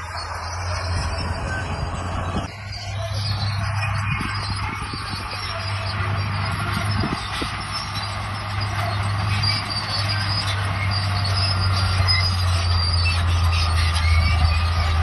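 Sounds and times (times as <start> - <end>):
diesel engine drone: 0.0 - 15.0
steel tracks squealing: 0.0 - 15.0.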